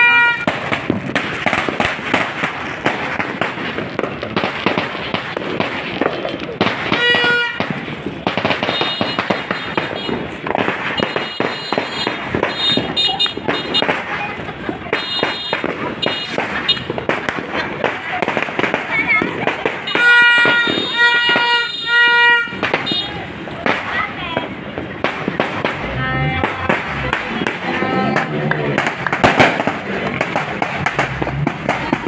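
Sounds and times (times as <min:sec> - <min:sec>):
firecrackers crackling and popping: 0:00.0 - 0:32.0.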